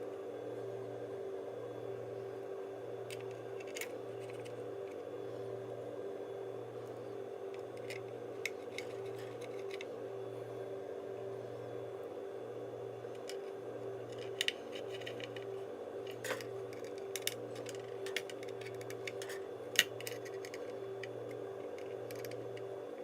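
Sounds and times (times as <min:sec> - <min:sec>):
pulsing steady hum: 0:00.0 - 0:23.0.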